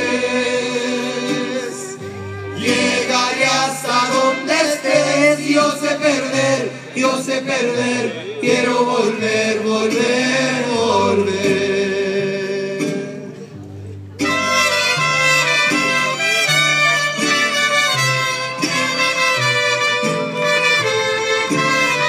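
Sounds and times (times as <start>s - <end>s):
mariachi band with guitars and violins: 0.0s - 22.0s.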